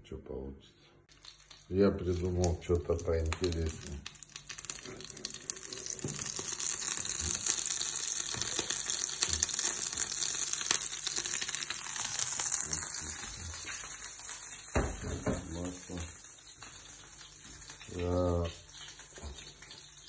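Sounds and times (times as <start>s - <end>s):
food sizzling in a frying pan: 1.1s - 20.0s.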